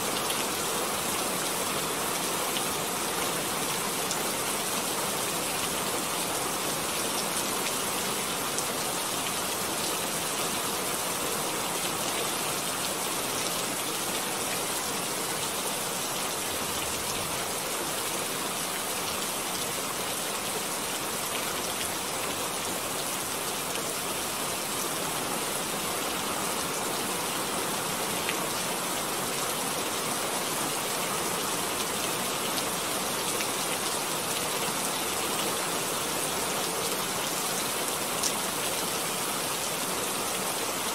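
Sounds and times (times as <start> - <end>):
rain-like hiss: 0.0 - 40.9.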